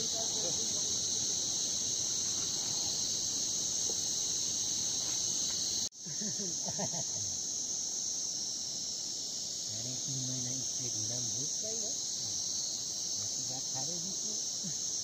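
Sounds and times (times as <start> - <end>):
shrill insect chorus: 0.0 - 15.0.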